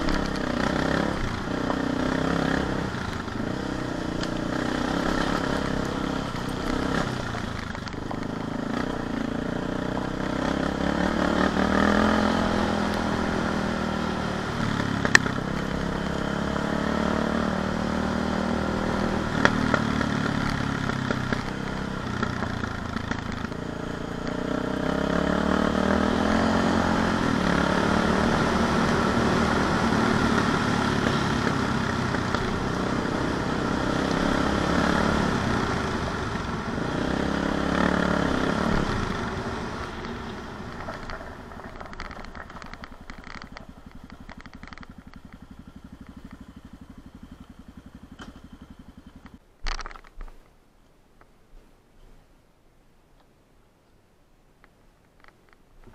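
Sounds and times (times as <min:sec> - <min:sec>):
motorcycle engine revving: 0:00.0 - 0:49.4.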